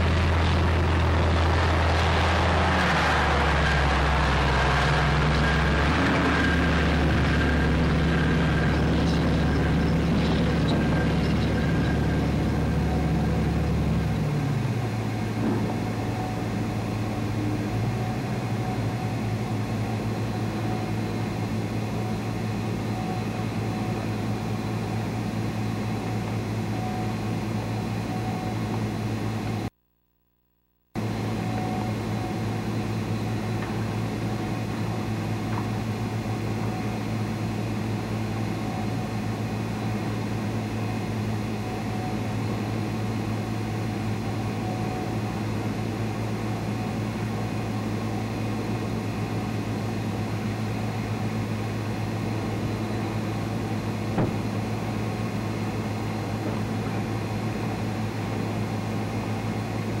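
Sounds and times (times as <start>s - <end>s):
tractor rig droning: 0.0s - 60.0s.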